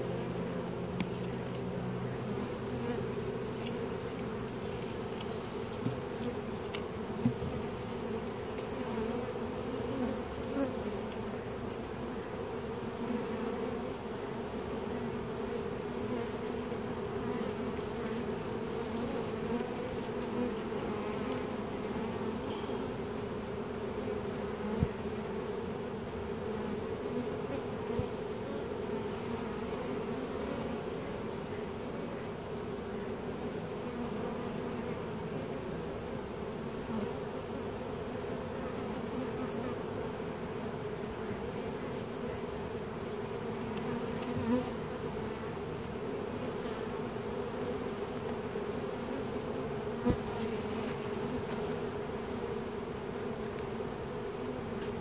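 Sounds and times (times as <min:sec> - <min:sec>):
bee swarm buzzing: 0:00.0 - 0:55.0.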